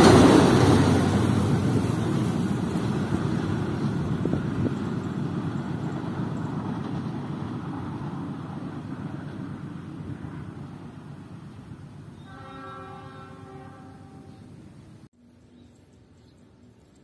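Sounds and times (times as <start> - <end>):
train rumbling on rails: 0.0 - 15.1.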